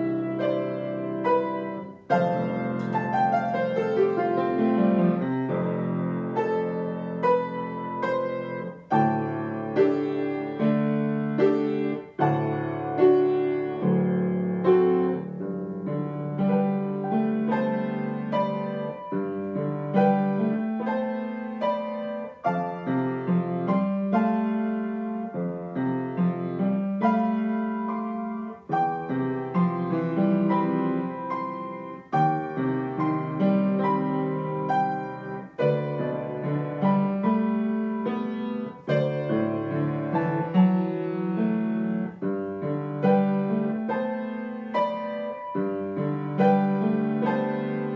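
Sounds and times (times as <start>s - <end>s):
solo piano playing: 0.0s - 47.9s.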